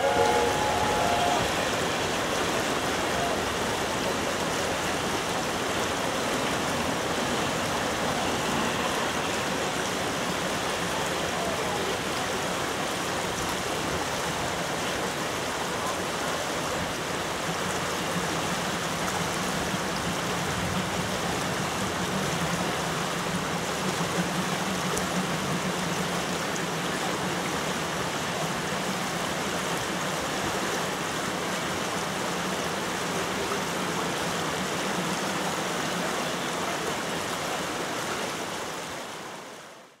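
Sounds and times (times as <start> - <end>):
river rushing over boulders: 0.0 - 40.0.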